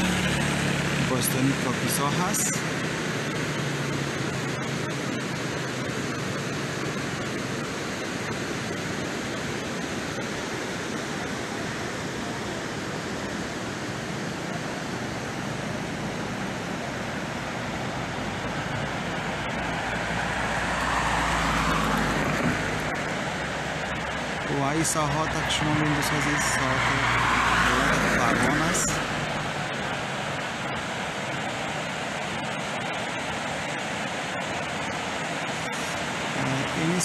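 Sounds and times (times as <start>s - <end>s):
rushing river water: 0.0s - 37.0s.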